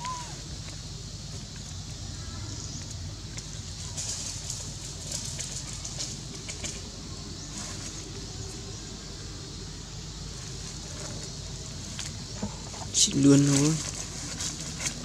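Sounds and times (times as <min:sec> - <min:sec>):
outdoor background hiss: 0:00.0 - 0:15.0
rustling of dry leaves: 0:00.0 - 0:15.0.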